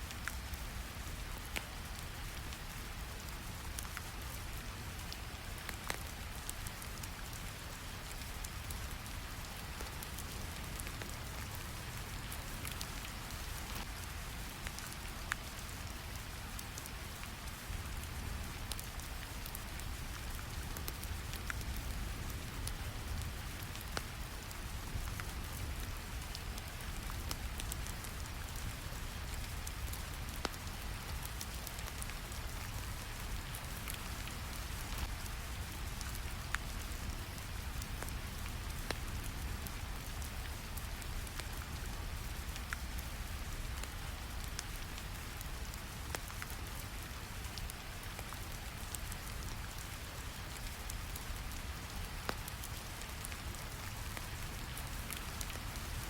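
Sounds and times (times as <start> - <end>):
rain: 0.0 - 56.0
fire crackling: 0.2 - 56.0.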